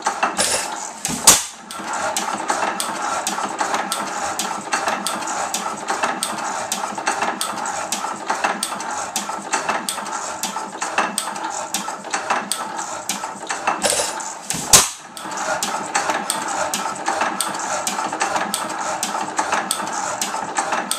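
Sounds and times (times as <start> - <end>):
engine metallic clatter: 0.0 - 20.9.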